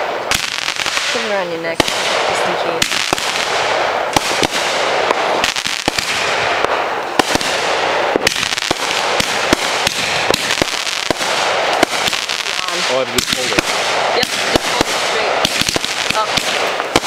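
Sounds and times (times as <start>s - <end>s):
fireworks bangs: 0.0s - 17.0s
fireworks hiss and crackle: 0.0s - 17.0s.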